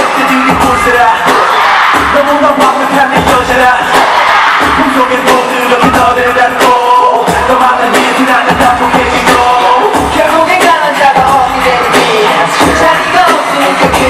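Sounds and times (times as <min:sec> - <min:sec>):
pop concert music with singing: 0:00.0 - 0:14.0.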